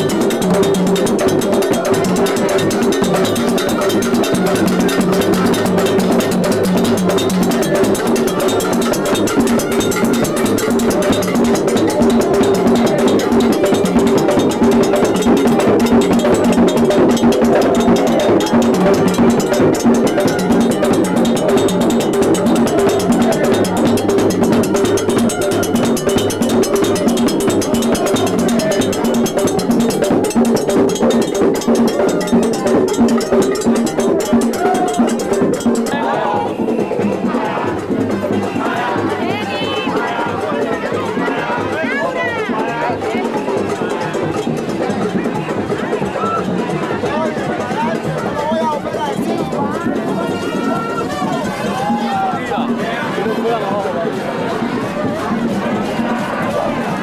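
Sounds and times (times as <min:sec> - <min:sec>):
cowbell beating: 0:00.0 - 0:57.0
drums beating: 0:00.0 - 0:57.0
voices: 0:00.0 - 0:57.0.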